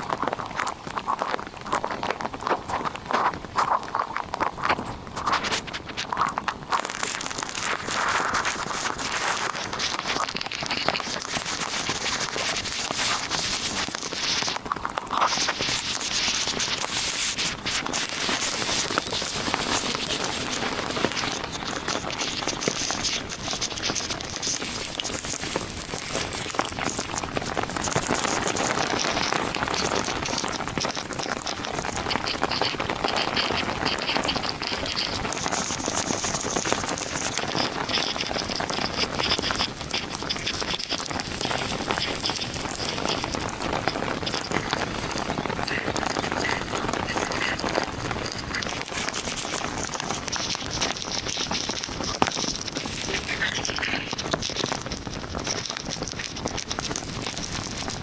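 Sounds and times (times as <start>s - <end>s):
heavy rain falling: 6.6s - 58.0s.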